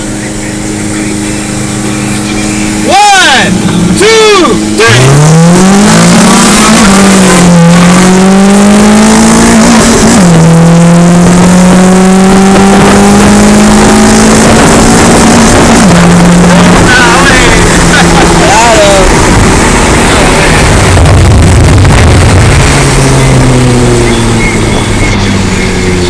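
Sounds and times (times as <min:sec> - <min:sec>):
engine at full throttle upshifting: 0:00.0 - 0:26.0.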